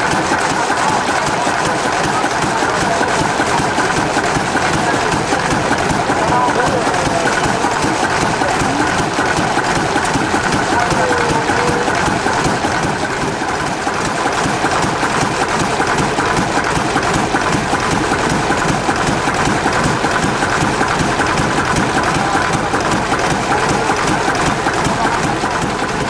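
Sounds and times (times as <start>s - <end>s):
stationary engine clattering: 0.0s - 26.0s.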